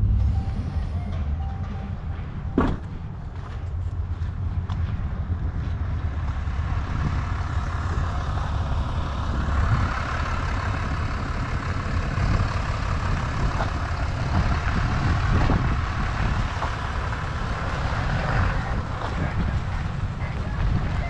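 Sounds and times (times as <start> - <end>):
road noise: 0.0 - 21.0
vehicle engine rumble: 0.0 - 21.0.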